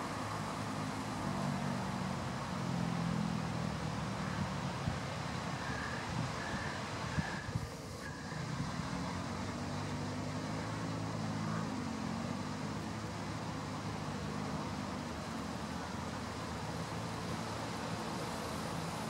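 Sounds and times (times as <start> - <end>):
road traffic noise: 0.0 - 19.0
vehicle engine drone: 0.0 - 19.0.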